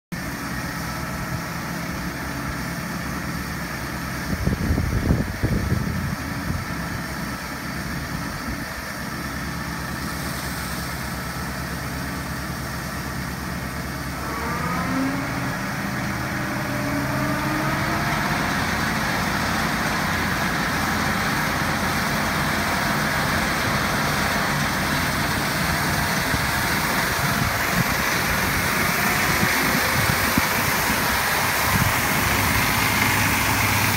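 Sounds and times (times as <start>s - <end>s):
tractor diesel engine running: 0.1s - 33.9s
flail mulcher whine and rushing: 0.2s - 33.9s.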